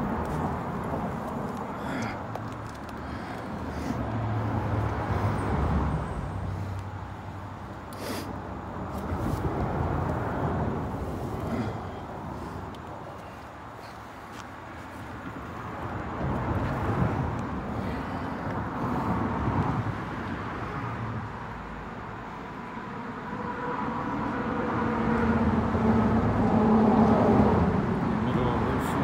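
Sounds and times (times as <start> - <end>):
road traffic passing overhead: 0.0 - 29.0
vehicle passing: 0.0 - 29.0.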